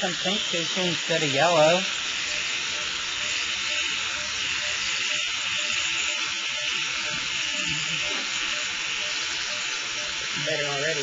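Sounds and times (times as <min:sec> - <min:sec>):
electric clippers running: 0:00.0 - 0:11.0.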